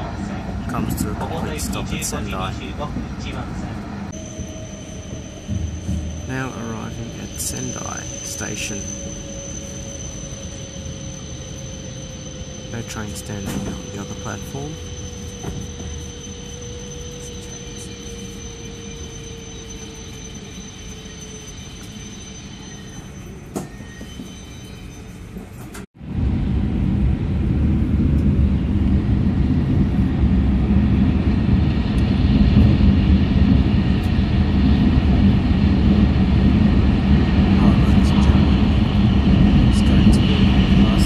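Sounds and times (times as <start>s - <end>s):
thin steady whine: 0.0s - 41.0s
train interior hum: 0.0s - 41.0s
train rumbling at speed: 0.0s - 41.0s.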